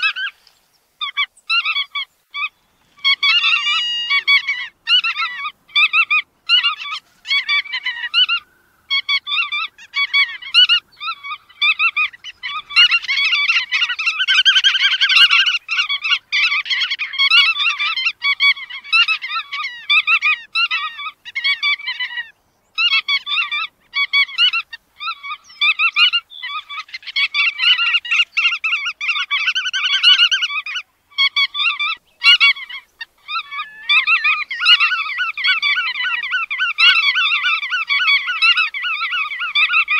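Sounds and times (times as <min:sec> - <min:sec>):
shorebirds calling rapidly: 0:00.0 - 0:39.9.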